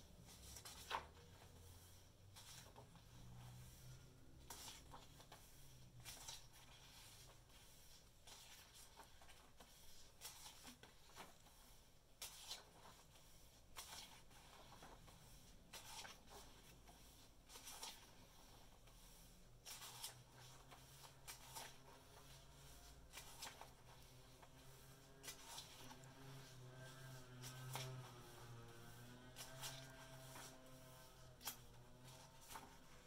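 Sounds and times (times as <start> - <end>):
book pages turning: 0.2 - 33.0.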